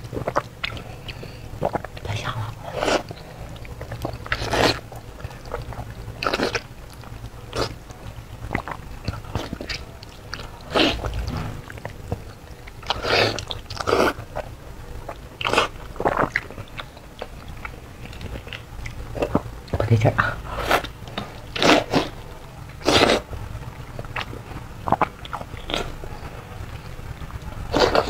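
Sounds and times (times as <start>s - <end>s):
biting and chewing meat: 0.0s - 19.8s, 20.5s - 28.0s.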